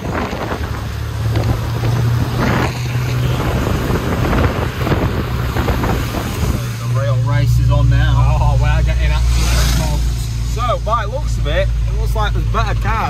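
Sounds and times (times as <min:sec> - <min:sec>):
car engine drone: 0:00.0 - 0:13.0
road and wind noise: 0:00.0 - 0:13.0.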